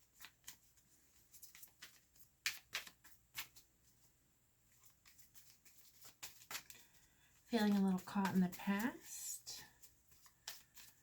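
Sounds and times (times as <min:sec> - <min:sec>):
cards tapping and flicking: 0:00.0 - 0:03.7, 0:04.8 - 0:11.0.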